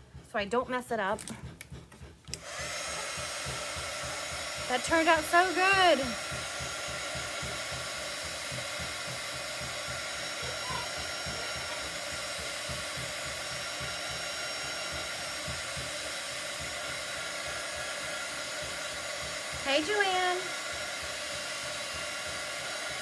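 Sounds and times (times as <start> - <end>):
hot-air dryer blowing: 0.0 - 23.0.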